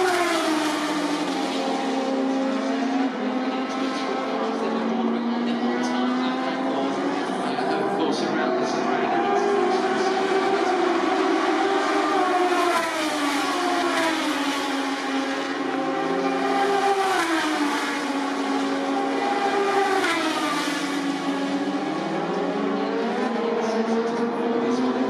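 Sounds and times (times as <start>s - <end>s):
racing motorcycle engines: 0.0s - 25.0s.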